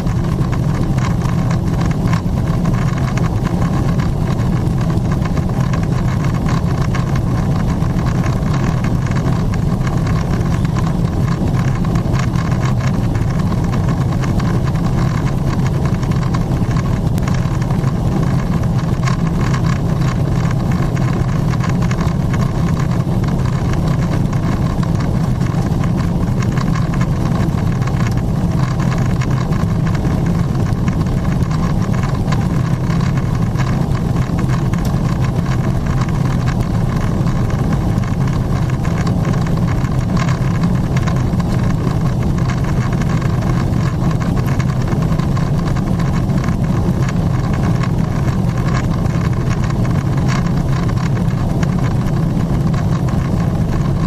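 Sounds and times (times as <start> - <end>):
low drone of jet engines: 0.0 - 54.0.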